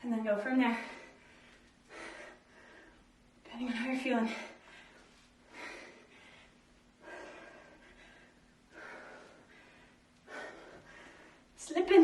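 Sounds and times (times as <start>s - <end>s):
woman breathing hard: 0.7s - 3.2s, 3.8s - 11.6s.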